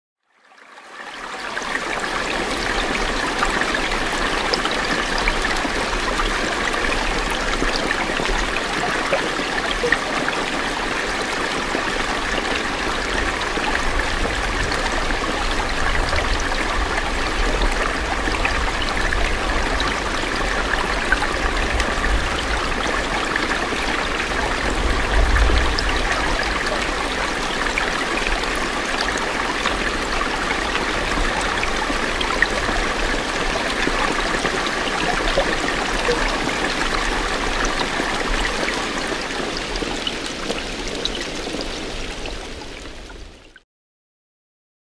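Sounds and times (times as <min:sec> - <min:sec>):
stream cascading over rocks: 0:00.5 - 0:43.6.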